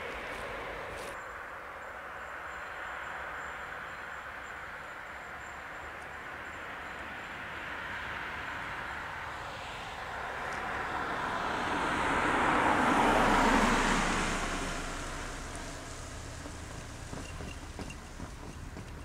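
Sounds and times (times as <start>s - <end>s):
vehicle passing by: 2.4s - 19.0s.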